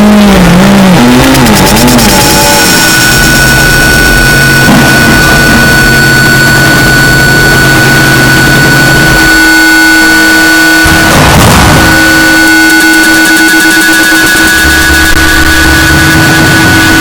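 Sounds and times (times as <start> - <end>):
low drone: 0.0 - 17.0
steady whining tones: 0.0 - 17.0
wall of distorted noise: 0.0 - 17.0.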